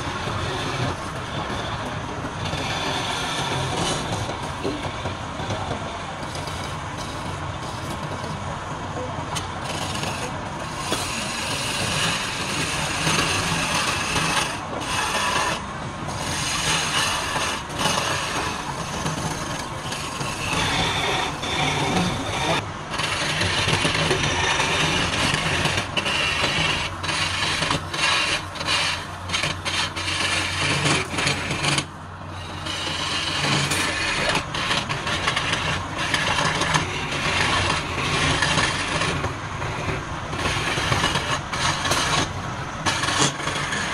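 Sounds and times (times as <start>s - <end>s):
lathe motor hum: 0.0s - 43.9s
tool scraping spinning wood: 0.0s - 43.9s.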